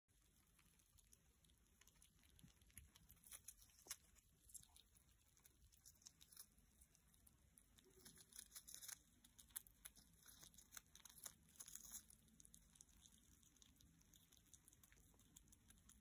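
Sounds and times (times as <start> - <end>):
squirrel nibbling petal: 0.1 - 16.0.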